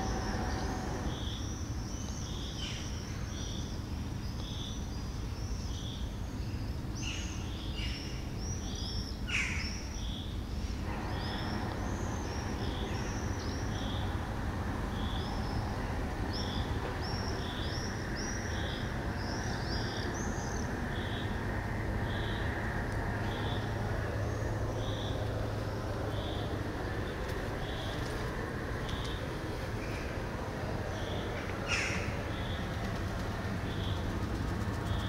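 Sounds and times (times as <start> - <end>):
low background rumble: 0.0 - 35.0
songbirds chirping: 0.0 - 35.0.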